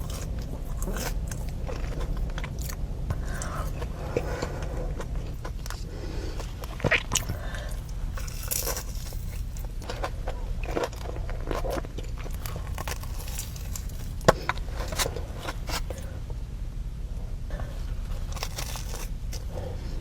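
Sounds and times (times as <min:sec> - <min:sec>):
crunchy bites and chewing: 0:00.0 - 0:16.4, 0:17.5 - 0:20.0.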